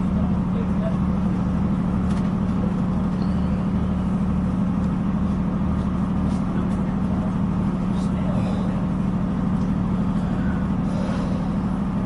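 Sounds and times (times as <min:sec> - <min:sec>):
train drone inside carriage: 0:00.0 - 0:12.0.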